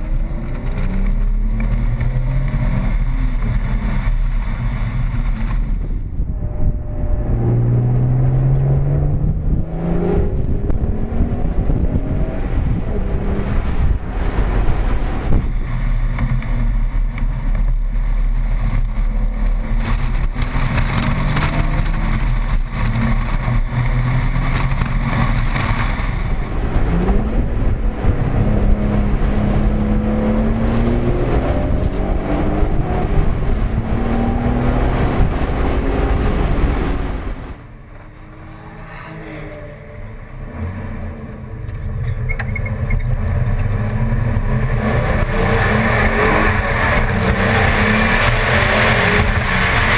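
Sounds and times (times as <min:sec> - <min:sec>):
car engine revving: 0:00.0 - 0:49.9
road and wind noise: 0:00.0 - 0:49.9.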